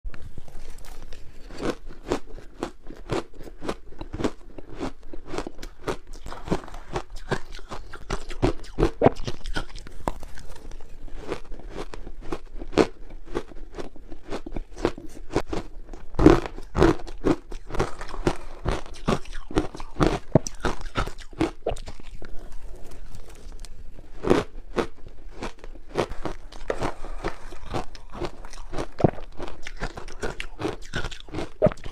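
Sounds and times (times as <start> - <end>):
chewing crunchy ice: 0.2 - 31.9.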